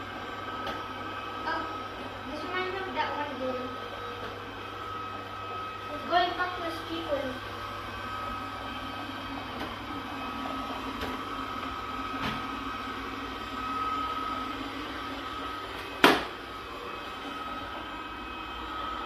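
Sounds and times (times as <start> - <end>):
robot vacuum motor hum: 0.0 - 19.0.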